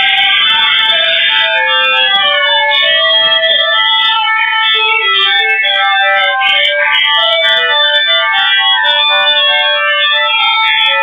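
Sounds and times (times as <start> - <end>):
keyboard music: 0.0 - 11.0.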